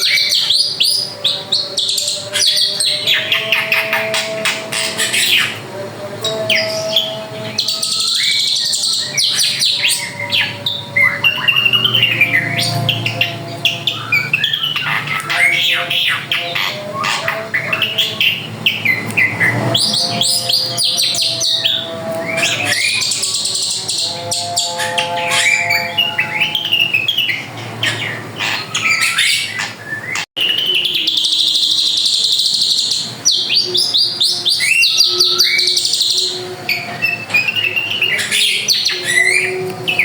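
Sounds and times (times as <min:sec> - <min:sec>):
bird singing varied song: 0:00.0 - 0:40.0.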